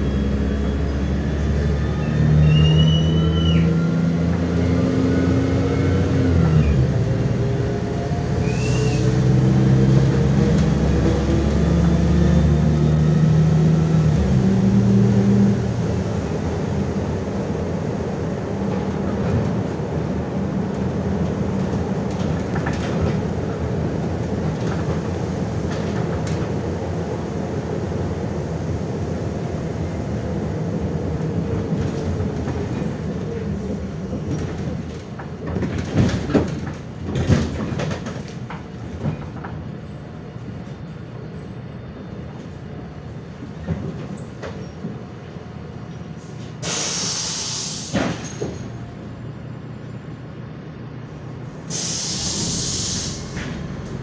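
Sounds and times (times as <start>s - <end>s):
bus diesel engine drone: 0.0s - 54.0s
road noise: 0.0s - 54.0s.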